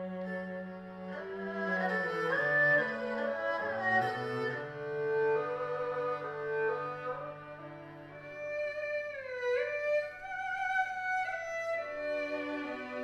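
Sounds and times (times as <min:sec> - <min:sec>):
erhu and cello slow melody: 0:00.0 - 0:13.0.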